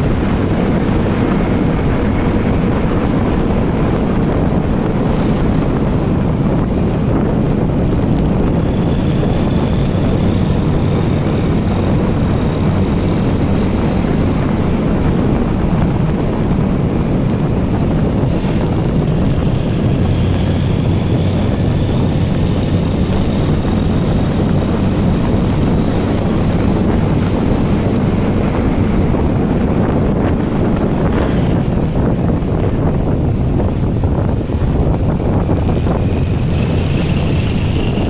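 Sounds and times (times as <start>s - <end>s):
motorcycle engine running: 0.0s - 38.0s
wind rushing on microphone: 0.0s - 38.0s.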